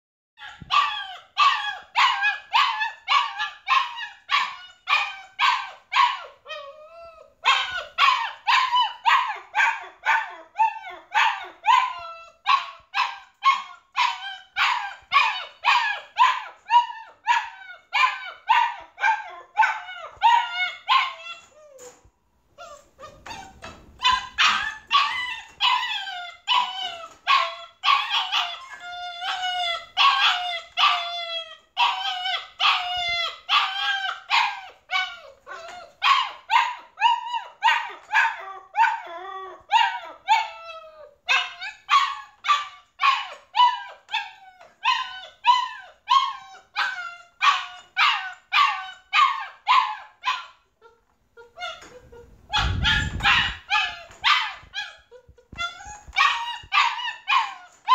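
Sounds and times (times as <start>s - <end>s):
puppy barking and yapping: 0.4s - 57.9s.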